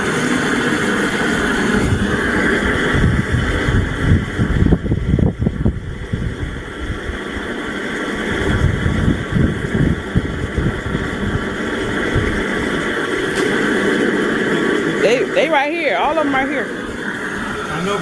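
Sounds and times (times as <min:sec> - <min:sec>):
low rumbling: 0:00.0 - 0:18.0
motor running: 0:00.0 - 0:18.0.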